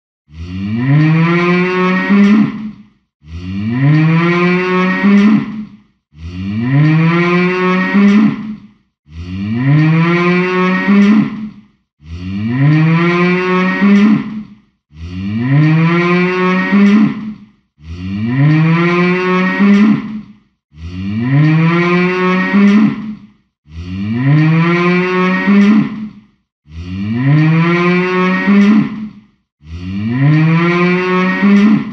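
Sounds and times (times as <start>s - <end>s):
cow mooing: 0.3s - 2.6s, 3.3s - 5.6s, 6.2s - 8.5s, 9.1s - 14.4s, 15.0s - 17.2s, 17.8s - 20.2s, 20.8s - 23.1s, 23.7s - 26.0s, 26.7s - 29.0s, 29.6s - 31.9s.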